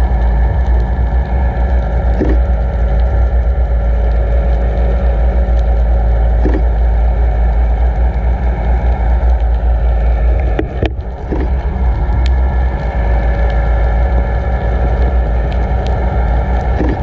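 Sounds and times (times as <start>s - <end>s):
faint boat hum: 0.0s - 17.0s
water rushing over camera housing: 0.0s - 17.0s
water swishes: 0.0s - 17.0s.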